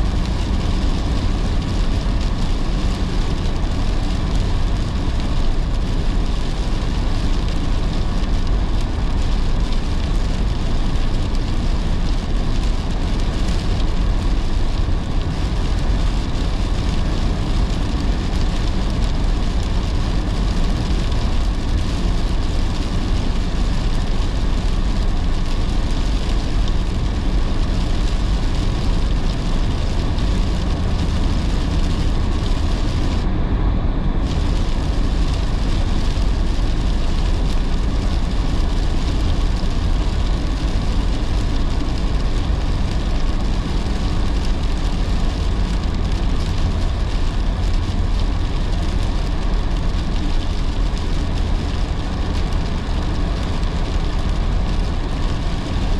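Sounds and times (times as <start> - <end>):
hiss of heavy rain: 0.0 - 55.9
low road rumble: 0.0 - 55.9.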